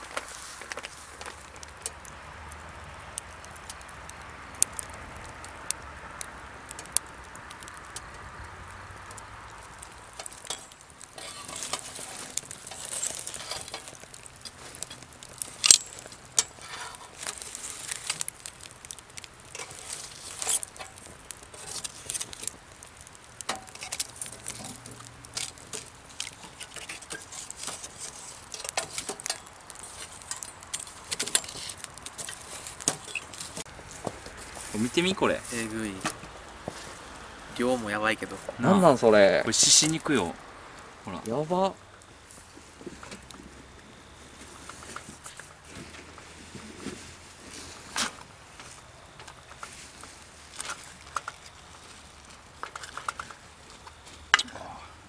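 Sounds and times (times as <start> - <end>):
soft cooking hiss: 0.0 - 55.0.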